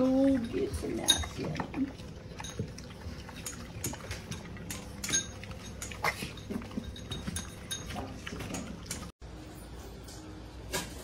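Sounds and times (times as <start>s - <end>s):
dogs chewing and nosing bowls: 0.0s - 11.0s.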